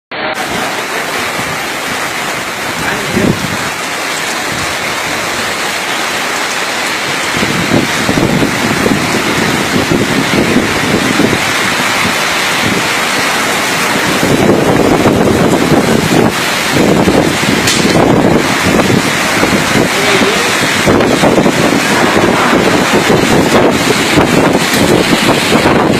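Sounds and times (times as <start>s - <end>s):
heavy rain pouring: 0.1s - 25.9s
wind buffeting microphone: 0.5s - 25.9s.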